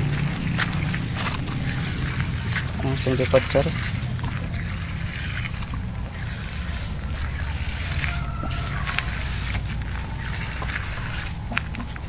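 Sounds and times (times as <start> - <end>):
liquid from hose splashing: 0.0 - 12.0.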